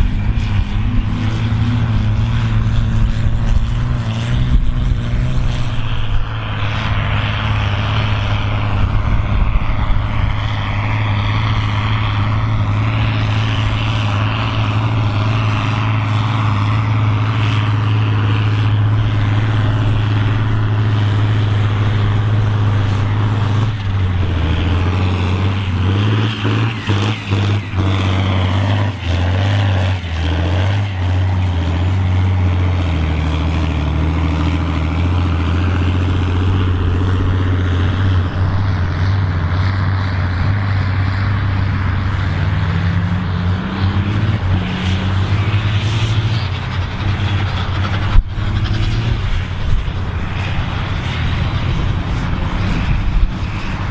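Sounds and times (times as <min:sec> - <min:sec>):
tractor engines droning: 0:00.0 - 0:53.9.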